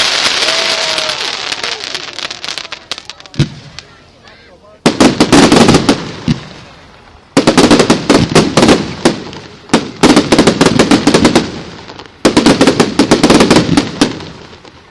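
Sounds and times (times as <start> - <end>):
fireworks cracking and banging: 0.0 - 14.9.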